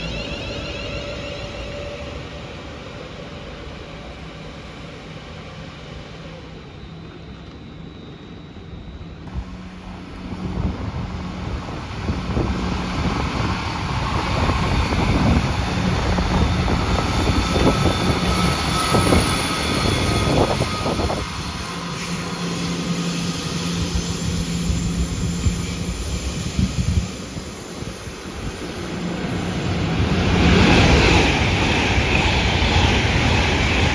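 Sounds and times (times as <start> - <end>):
train rushing past: 0.0 - 33.9.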